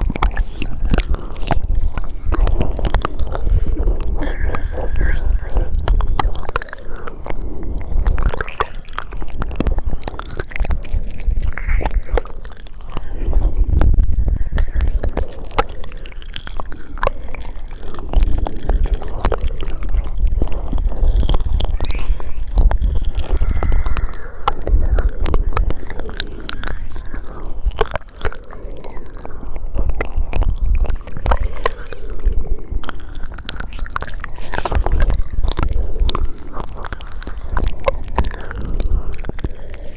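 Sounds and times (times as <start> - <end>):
low rumble: 0.0 - 39.9
wet mouth clicks and smacks: 0.0 - 39.9.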